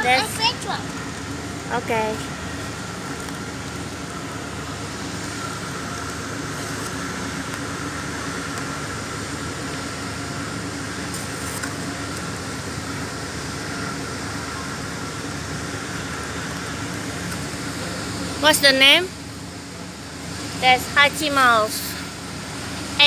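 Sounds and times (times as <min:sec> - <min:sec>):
fan hum and hiss: 0:00.0 - 0:23.0.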